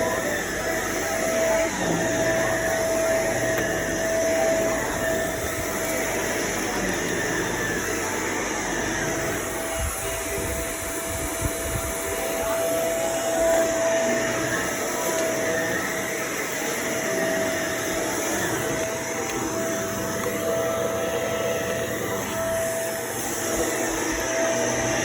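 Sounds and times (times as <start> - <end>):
vacuum cleaner whining: 0.0 - 25.0.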